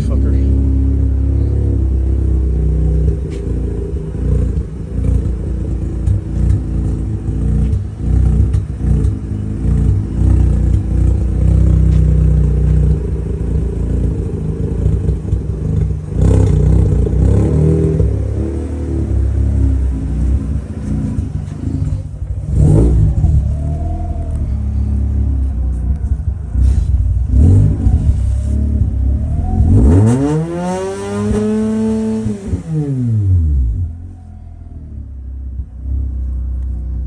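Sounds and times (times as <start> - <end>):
rotary engine running unevenly: 0.0 - 37.0.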